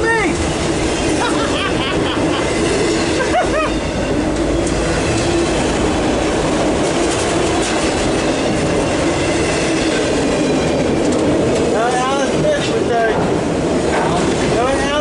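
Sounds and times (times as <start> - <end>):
freight cars rumbling and rattling: 0.0 - 15.0.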